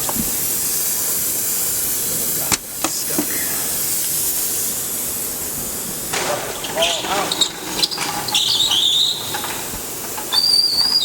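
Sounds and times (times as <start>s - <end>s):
loud steady air hiss: 0.0s - 11.0s.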